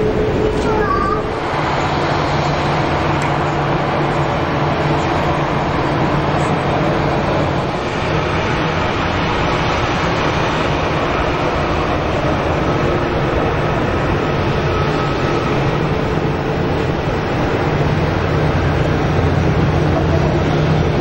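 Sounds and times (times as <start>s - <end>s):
jet engines idling: 0.0s - 21.0s.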